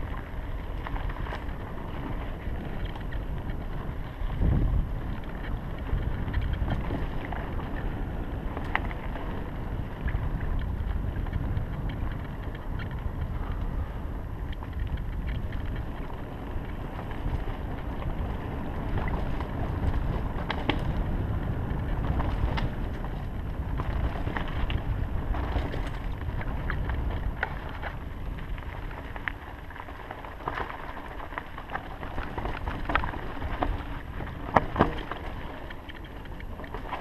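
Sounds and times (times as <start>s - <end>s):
bike clicks and rattles: 0.0s - 37.0s
tyre noise on dirt: 0.0s - 37.0s
wind rumble on microphone: 0.0s - 37.0s.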